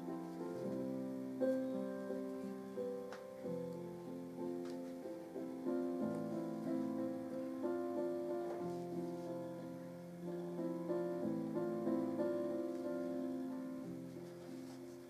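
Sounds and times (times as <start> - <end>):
calm piano music: 0.0 - 15.0.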